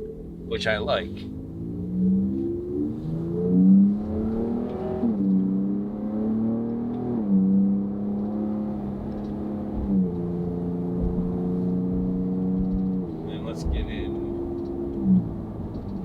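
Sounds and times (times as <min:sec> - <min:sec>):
truck engine accelerating and upshifting: 0:00.0 - 0:16.0.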